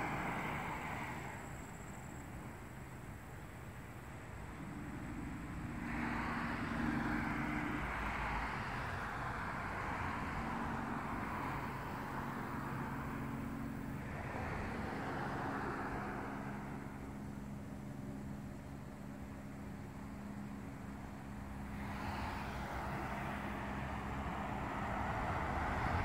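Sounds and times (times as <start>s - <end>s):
vehicle passing on road: 0.0s - 26.0s.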